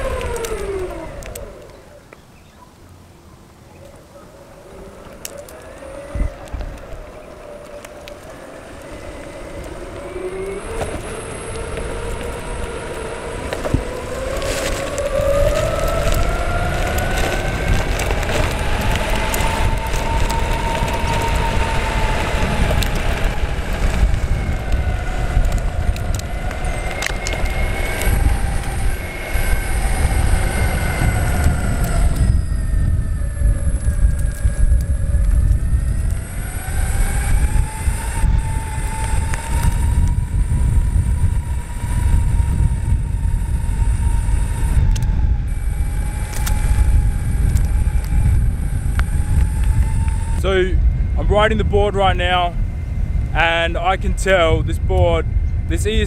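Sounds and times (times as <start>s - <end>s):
electric motors whining: 0.0s - 2.3s, 4.0s - 56.0s
wind rumble on microphone: 0.0s - 3.0s, 3.6s - 56.0s
tyres rolling on asphalt: 0.0s - 54.4s.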